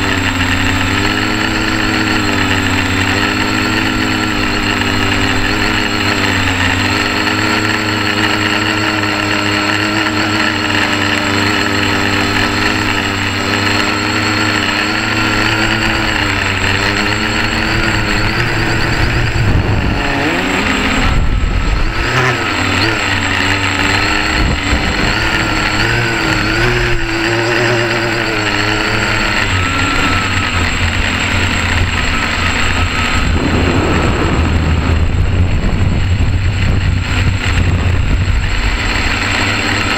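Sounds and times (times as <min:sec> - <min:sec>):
quadcopter motors droning: 0:00.0 - 0:39.9.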